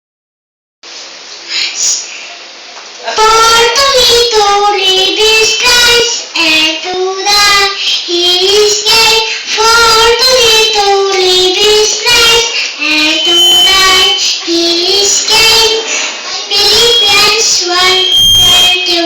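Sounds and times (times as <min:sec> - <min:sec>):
children singing: 0:03.2 - 0:19.0.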